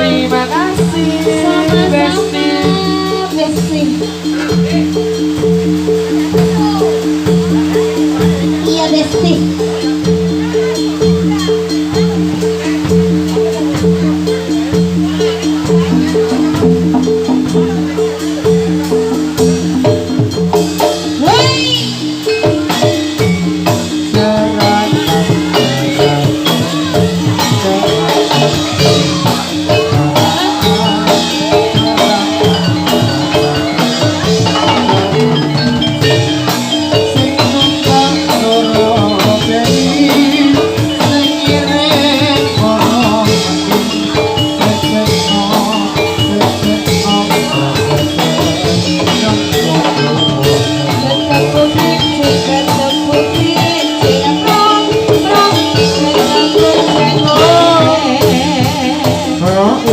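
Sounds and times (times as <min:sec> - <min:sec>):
metallophones playing a melody: 0:00.0 - 0:59.9
steady percussion: 0:00.0 - 0:59.9.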